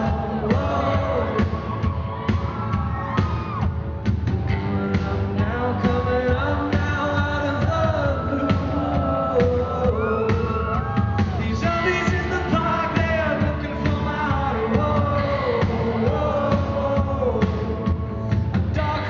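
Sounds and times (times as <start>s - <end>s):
man singing: 0.0s - 1.9s, 4.7s - 19.0s
drums: 0.0s - 19.0s
guitars: 0.0s - 19.0s.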